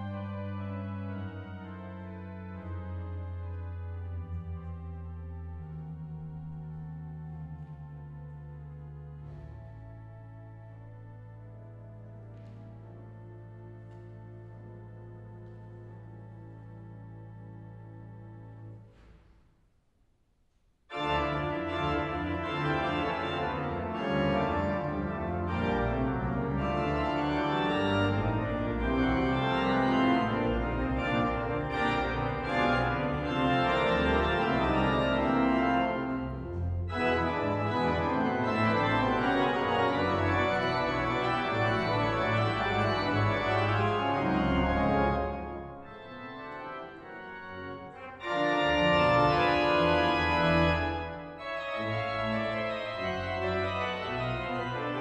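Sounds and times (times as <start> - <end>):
pipe organ chords: 0.0 - 19.5, 20.9 - 55.0.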